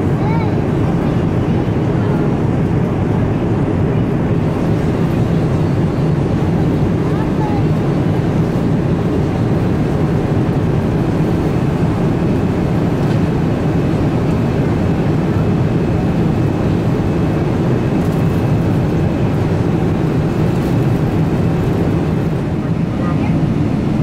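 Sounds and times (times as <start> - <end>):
airplane cabin drone: 0.0 - 24.0.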